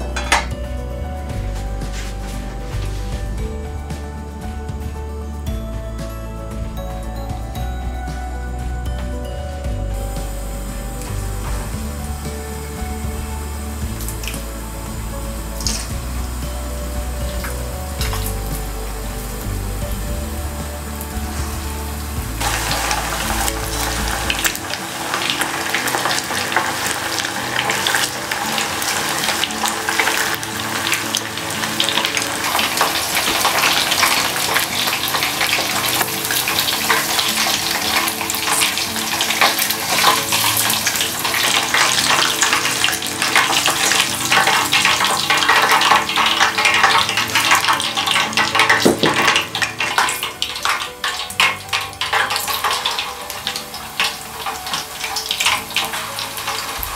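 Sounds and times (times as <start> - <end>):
chicken deep-frying in oil: 10.0 - 56.9.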